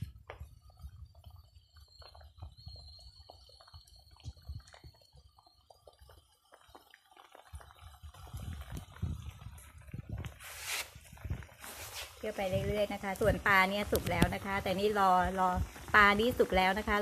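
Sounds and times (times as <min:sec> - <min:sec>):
curry bubbling in a wok: 0:00.0 - 0:17.0.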